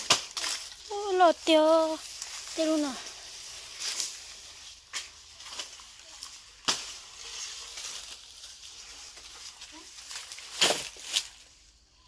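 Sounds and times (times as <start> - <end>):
dry grass rustling and crackling: 0.0 - 12.0.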